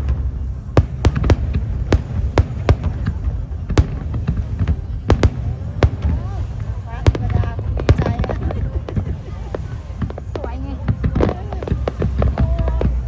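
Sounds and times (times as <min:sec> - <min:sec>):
fireworks bangs: 0:00.0 - 0:13.0
low rumble: 0:00.0 - 0:13.0.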